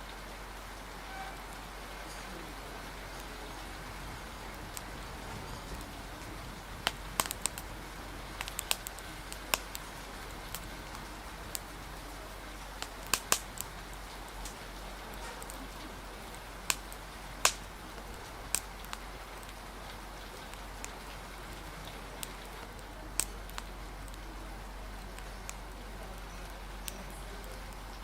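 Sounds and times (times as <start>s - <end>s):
steady rain: 0.0s - 28.0s
wood fire crackling: 0.0s - 28.0s.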